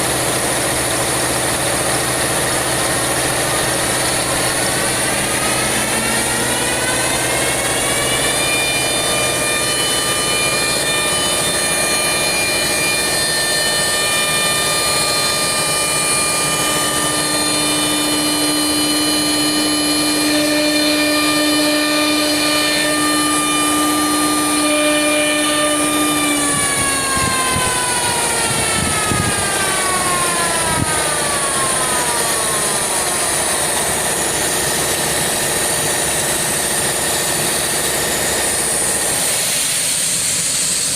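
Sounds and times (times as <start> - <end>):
machine drone: 0.0 - 40.9
router spindle whining: 0.0 - 40.9.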